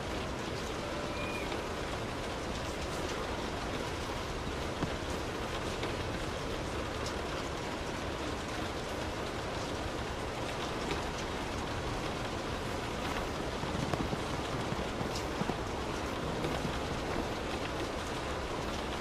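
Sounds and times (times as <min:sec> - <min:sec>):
rain drumming on car roof: 0:00.0 - 0:19.0
raindrop ticks: 0:00.0 - 0:19.0.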